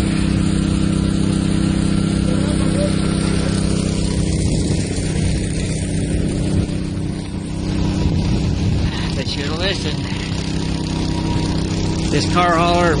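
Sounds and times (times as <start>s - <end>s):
dense rushing noise: 0.0s - 13.0s
heavy engine droning: 0.0s - 13.0s.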